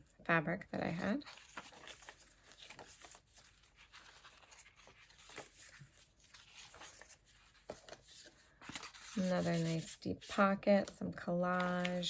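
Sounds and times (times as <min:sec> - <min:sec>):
paper pages turning: 0:00.8 - 0:12.0.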